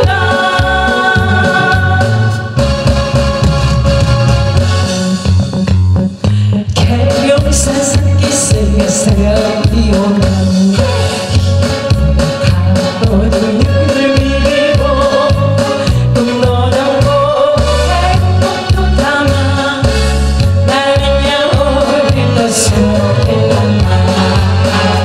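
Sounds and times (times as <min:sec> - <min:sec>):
woman singing into a microphone: 0:00.0 - 0:02.6, 0:06.4 - 0:11.5, 0:12.3 - 0:25.0
pop backing track with beat: 0:00.0 - 0:25.0.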